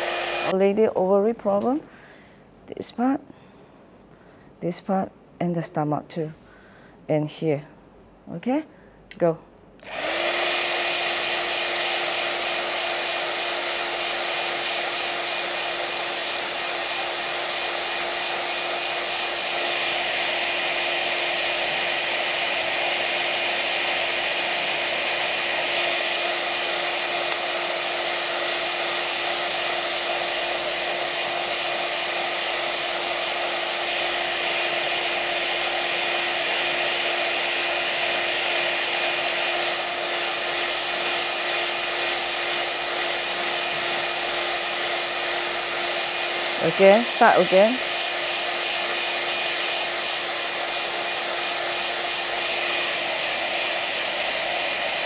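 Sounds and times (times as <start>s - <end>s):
handheld device whirring hum: 0.0s - 0.6s, 9.8s - 55.0s.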